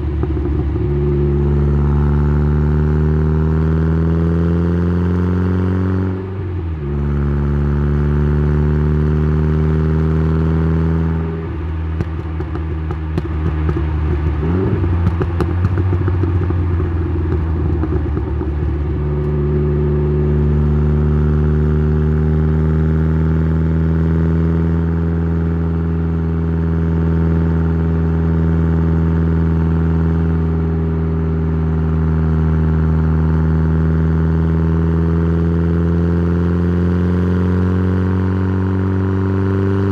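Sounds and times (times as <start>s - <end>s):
car exhaust droning: 0.0s - 5.2s, 5.9s - 35.8s.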